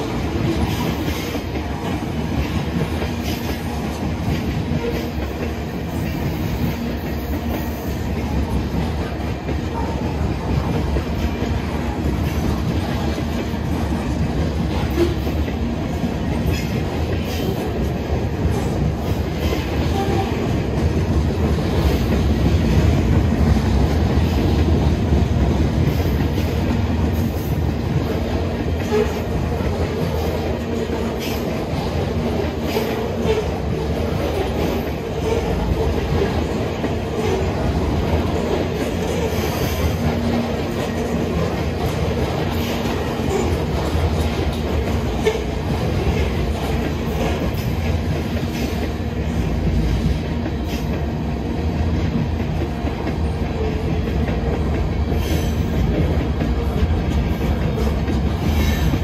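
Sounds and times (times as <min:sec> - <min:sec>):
clickety-clack of wheels: 0:00.0 - 0:59.0
freight train rumbling past: 0:00.0 - 0:59.0.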